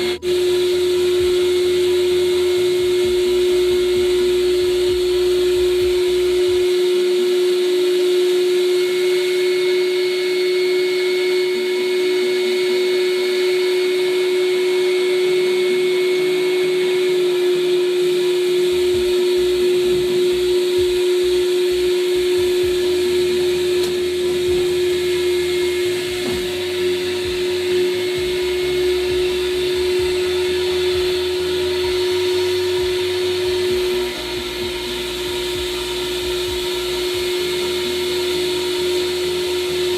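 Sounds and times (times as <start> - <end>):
wet vacuum sucking water: 0.0 - 39.9.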